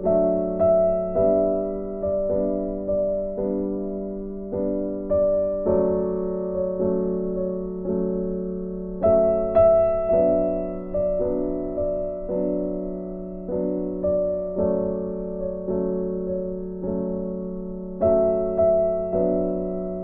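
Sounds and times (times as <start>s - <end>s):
soft slow piano piece: 0.0s - 20.0s.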